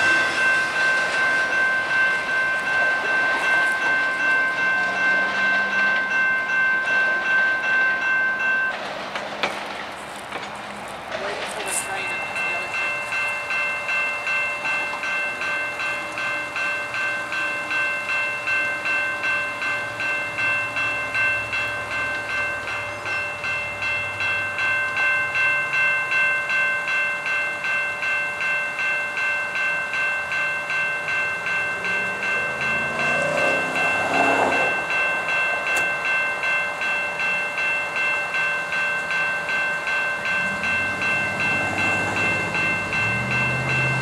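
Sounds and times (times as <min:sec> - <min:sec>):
railroad crossing bell ringing: 0:00.0 - 0:44.0
train rumbling: 0:00.0 - 0:44.0.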